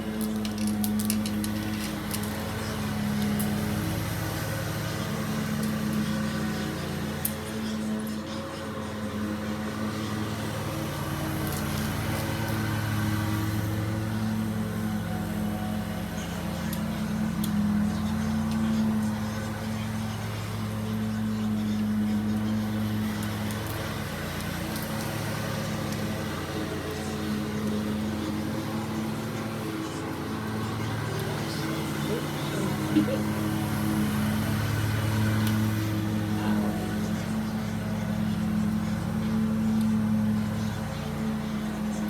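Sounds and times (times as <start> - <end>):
lawn mower engine running: 0.0 - 42.0.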